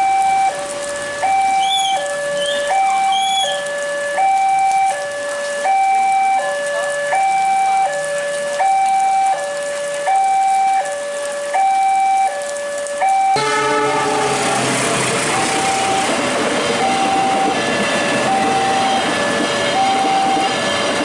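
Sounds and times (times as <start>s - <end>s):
level crossing two-tone alarm: 1.2s - 9.5s, 10.1s - 16.2s, 16.8s - 20.8s.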